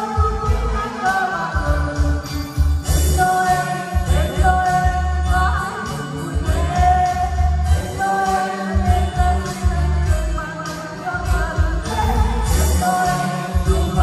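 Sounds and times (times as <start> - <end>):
group singing: 0.0 - 14.0
karaoke backing track with bass beat: 0.0 - 14.0.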